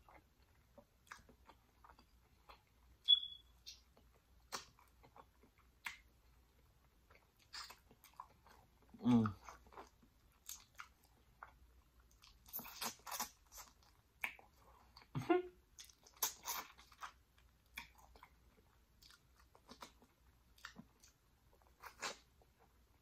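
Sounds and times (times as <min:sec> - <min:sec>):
wet chewing and lip-smacking: 0:00.0 - 0:15.1, 0:15.7 - 0:23.0.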